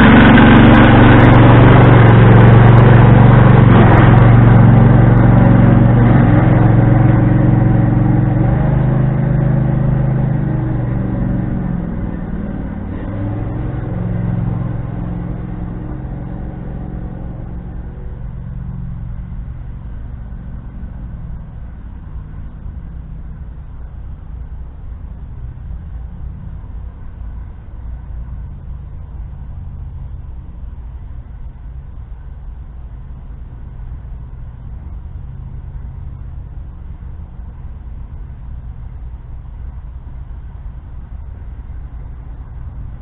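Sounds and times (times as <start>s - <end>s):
riding mower engine running: 0.0s - 43.0s.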